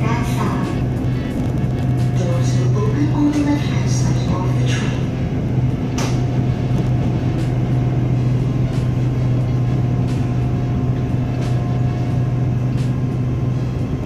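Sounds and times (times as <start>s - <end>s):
train car hum and rumble: 0.0s - 14.0s.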